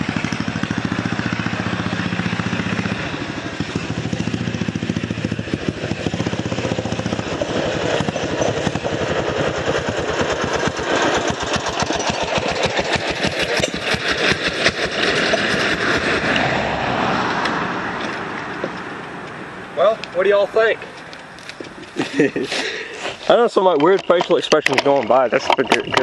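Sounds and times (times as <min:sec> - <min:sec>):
racing lawn mower engine: 0:00.0 - 0:26.0.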